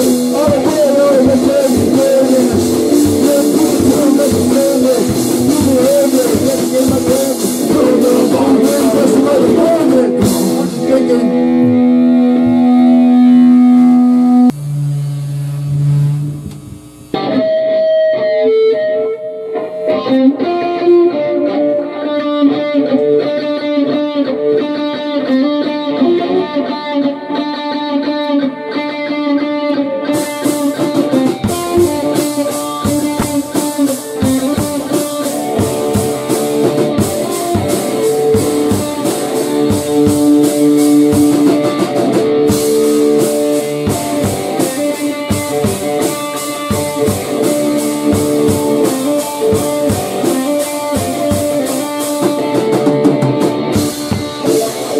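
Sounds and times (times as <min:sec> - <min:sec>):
electric guitar rock music: 0:00.0 - 0:54.9.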